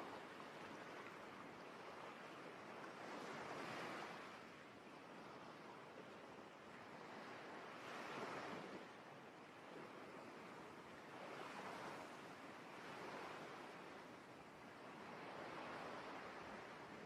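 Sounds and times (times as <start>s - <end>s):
faint ocean waves washing ashore: 0.0s - 17.0s.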